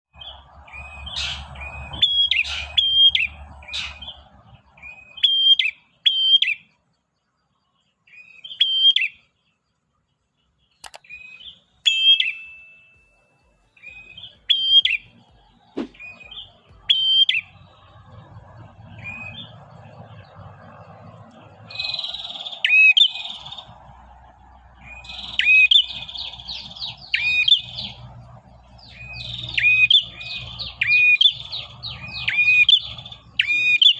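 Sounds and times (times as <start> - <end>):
bird chattering song: 0.2 - 33.9.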